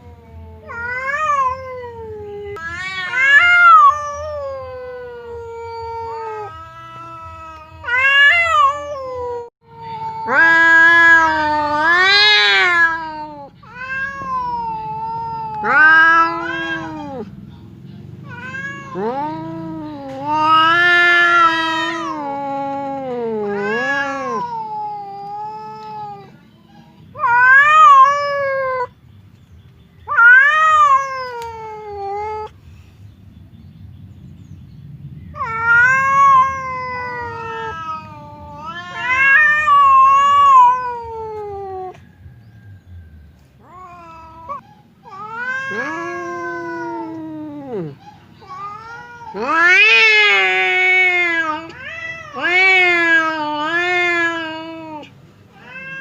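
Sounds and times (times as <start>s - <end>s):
cats caterwauling: 0.0s - 17.6s, 18.2s - 29.0s, 30.0s - 32.6s, 35.3s - 42.1s, 43.6s - 56.0s.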